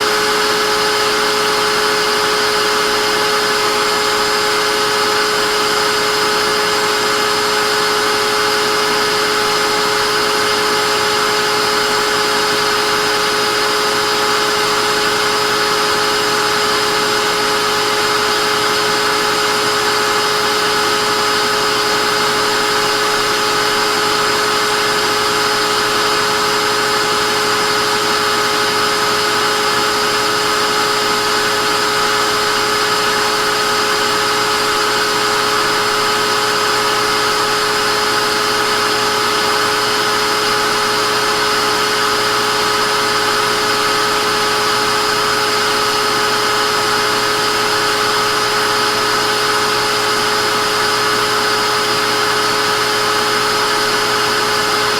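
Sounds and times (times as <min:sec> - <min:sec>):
vacuum cleaner motor running: 0:00.0 - 0:54.9.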